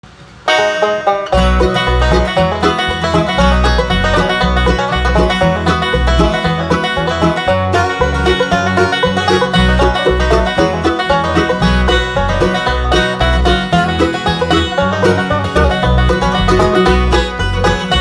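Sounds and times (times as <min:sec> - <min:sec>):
banjo picking: 0:00.5 - 0:18.0
guitar: 0:00.5 - 0:18.0
bass line: 0:01.4 - 0:18.0.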